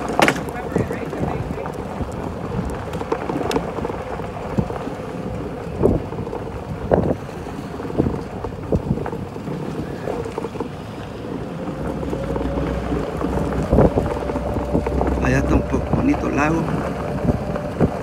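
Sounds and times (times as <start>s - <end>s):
wind blowing across microphone: 0.0s - 18.0s.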